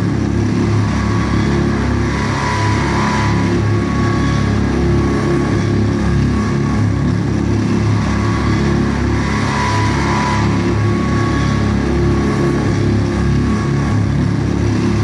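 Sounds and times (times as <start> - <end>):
grinding noise music: 0.0 - 15.0
low droning hum: 0.0 - 15.0.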